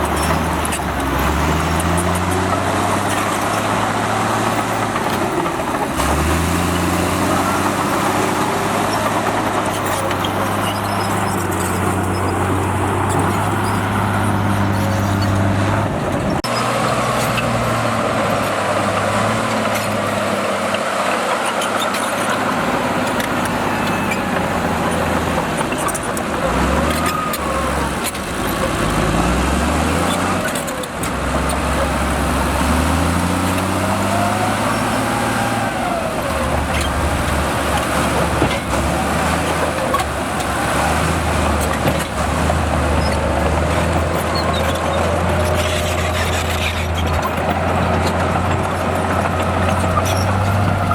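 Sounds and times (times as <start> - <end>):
diesel machinery engine: 0.0 - 50.9.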